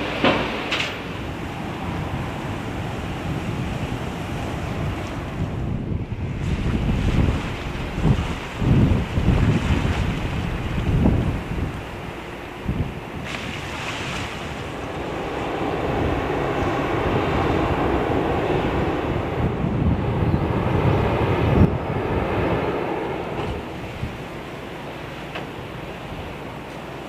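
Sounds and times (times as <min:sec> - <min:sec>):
gusty wind buffeting microphone: 0:00.0 - 0:27.0
harbour water washing: 0:00.0 - 0:27.0.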